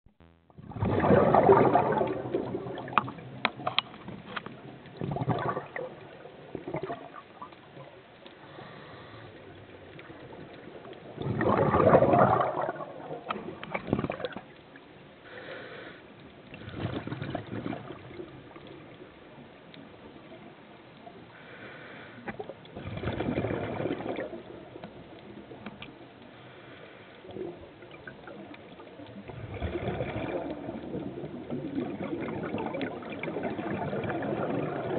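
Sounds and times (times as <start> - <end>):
exhaled bubbles gurgling underwater: 0.6 - 15.5, 16.1 - 34.9.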